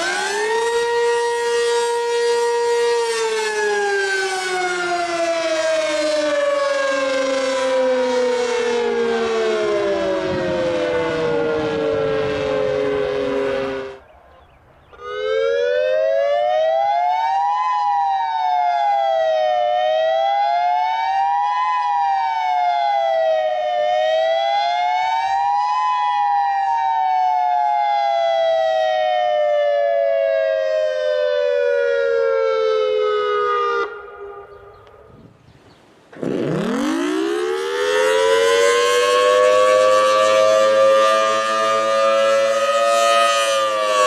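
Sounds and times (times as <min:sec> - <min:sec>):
warning siren wailing: 0:00.0 - 0:35.3, 0:36.2 - 0:44.0.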